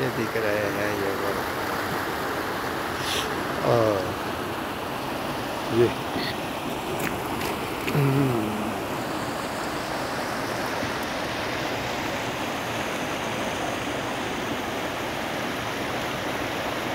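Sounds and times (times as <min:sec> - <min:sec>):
river rushing over stones: 0:00.0 - 0:16.9.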